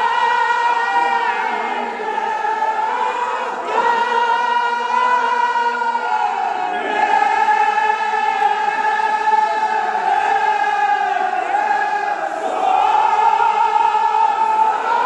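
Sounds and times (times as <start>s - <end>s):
chorus of men singing: 0.0s - 15.0s.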